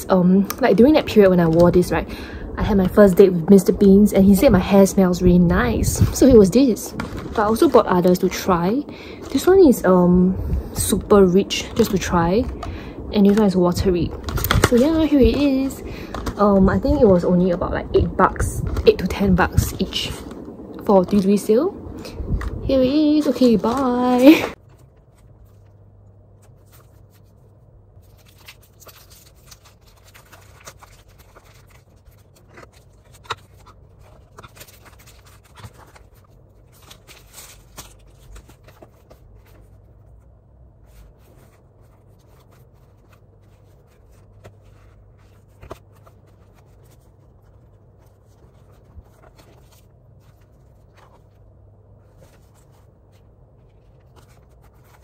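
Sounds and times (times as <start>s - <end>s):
cardboard and paper rustling: 0.0s - 55.0s
faint low hum: 0.0s - 55.0s.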